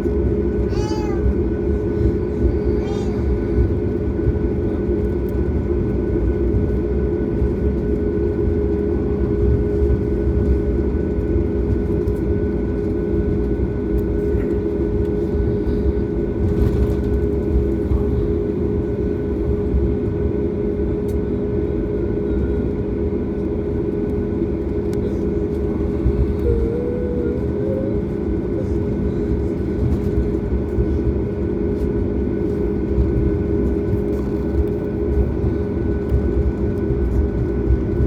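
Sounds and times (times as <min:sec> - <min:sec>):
jet engine drone inside cabin: 0:00.0 - 0:38.0.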